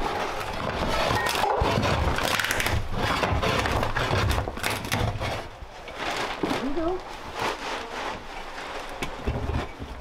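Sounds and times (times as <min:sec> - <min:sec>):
metal shovel scraping floor: 0:00.0 - 0:10.0.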